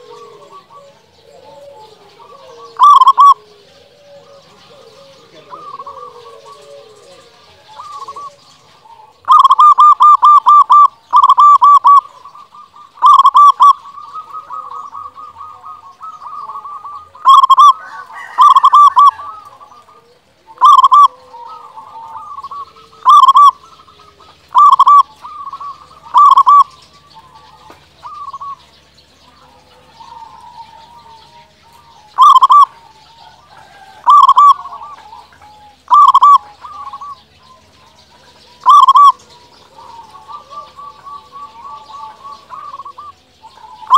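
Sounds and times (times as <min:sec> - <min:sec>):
dove cooing: 0:00.0 - 0:43.9
faint bird calls: 0:00.0 - 0:43.9.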